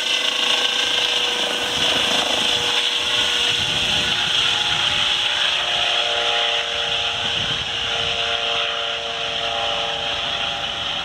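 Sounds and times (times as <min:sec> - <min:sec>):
helicopter whine and rotor noise: 0:00.0 - 0:11.0.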